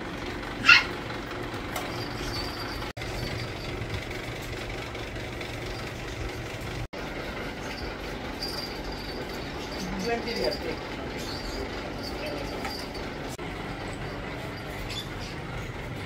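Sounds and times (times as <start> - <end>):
busy market rumble: 0.0 - 16.0.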